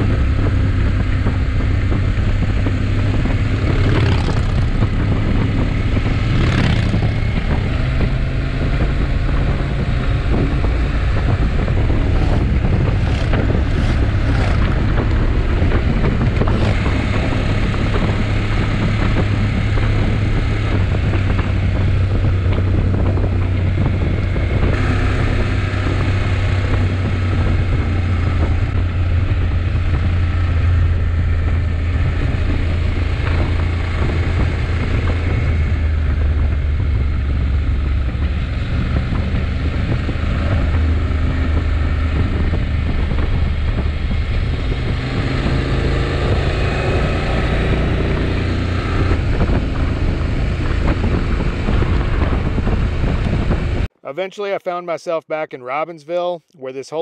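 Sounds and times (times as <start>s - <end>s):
motorcycle engine droning: 0.0s - 53.9s
wind on microphone: 0.0s - 53.9s.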